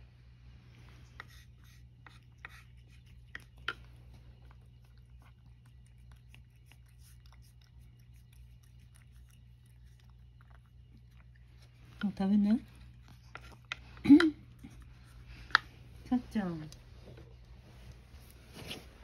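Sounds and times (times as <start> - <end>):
low steady hum: 0.0 - 19.0
cat licking and eating: 0.6 - 19.0.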